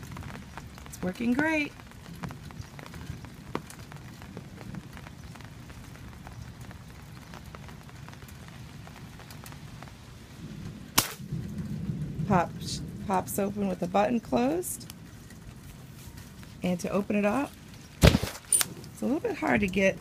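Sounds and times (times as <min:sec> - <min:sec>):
rain on umbrella: 0:00.0 - 0:20.0.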